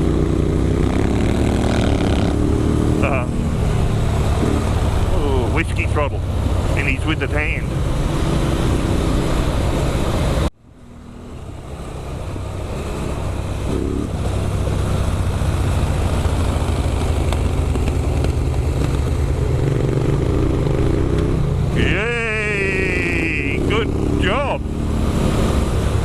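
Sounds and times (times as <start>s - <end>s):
motorcycle engine: 0.0s - 26.0s
wind and road noise: 0.0s - 26.0s.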